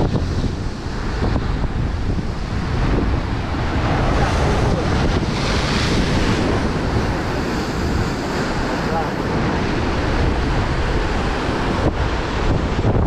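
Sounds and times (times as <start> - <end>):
surf breaking on rocks: 0.0 - 13.0
wind buffeting microphone: 0.0 - 13.0.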